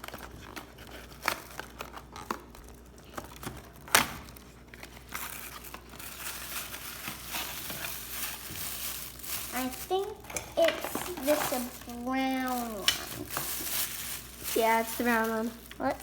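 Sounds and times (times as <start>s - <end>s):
packaging crinkling: 0.0s - 16.0s
packaging tearing: 0.0s - 16.0s.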